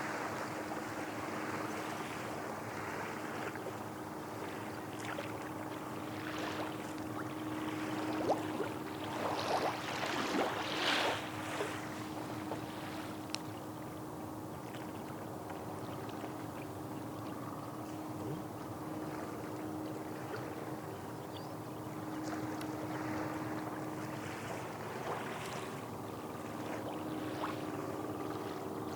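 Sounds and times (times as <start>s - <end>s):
small waves washing on shore: 0.0s - 21.2s, 21.8s - 28.9s
low hum: 3.7s - 28.9s.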